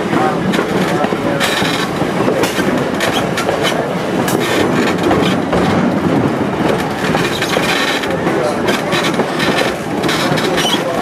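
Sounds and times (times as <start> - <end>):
sharp rail clicks: 0.0 - 11.0
train wheels rumbling on rails: 0.0 - 11.0.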